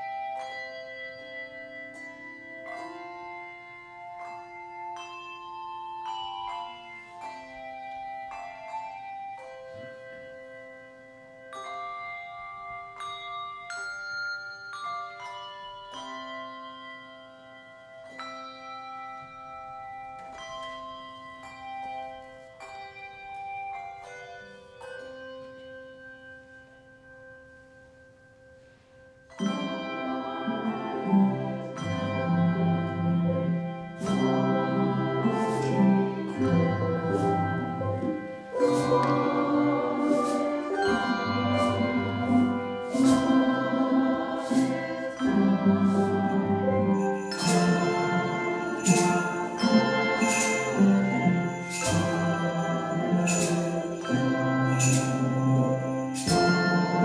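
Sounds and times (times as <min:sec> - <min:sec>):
handbell choir ringing chords: 0:00.0 - 0:57.0.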